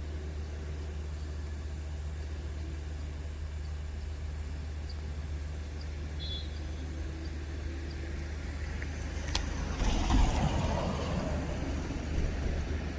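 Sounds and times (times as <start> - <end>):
engine humming: 0.0 - 12.9.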